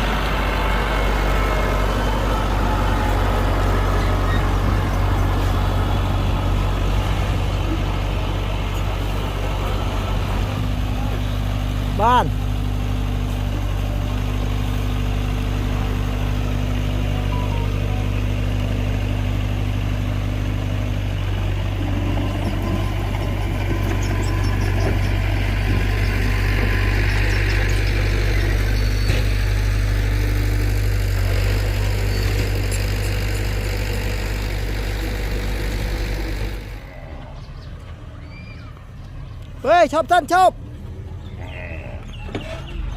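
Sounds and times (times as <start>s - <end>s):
rough machinery working noise: 0.0s - 39.0s
heavy diesel engine humming: 0.0s - 42.9s.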